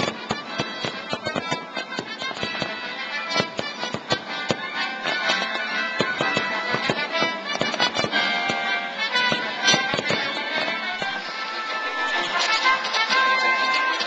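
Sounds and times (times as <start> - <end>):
fireworks bangs and pops: 0.0 - 14.0
live music: 0.0 - 14.0.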